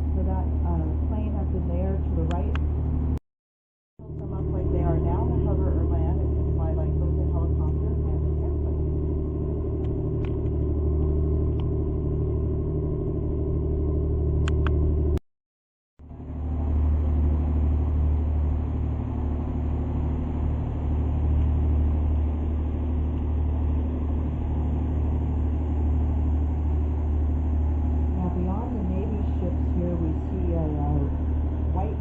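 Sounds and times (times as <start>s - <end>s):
boat engine drone: 0.0s - 3.2s, 4.0s - 15.2s, 16.0s - 32.0s.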